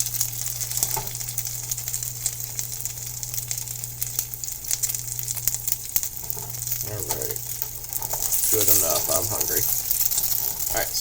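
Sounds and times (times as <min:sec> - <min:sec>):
butter sizzling in a frying pan: 0:00.0 - 0:11.0
steady low hum: 0:00.0 - 0:11.0.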